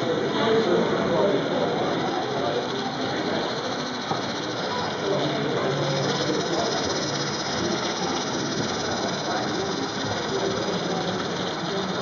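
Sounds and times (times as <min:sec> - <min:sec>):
chatter of voices in a hall: 0:00.0 - 0:12.0
model train running on track: 0:00.0 - 0:12.0.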